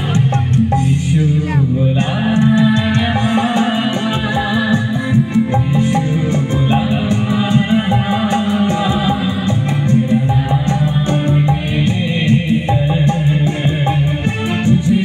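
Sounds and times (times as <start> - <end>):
live band with electric guitars: 0.0 - 15.0
man and woman singing: 0.0 - 15.0.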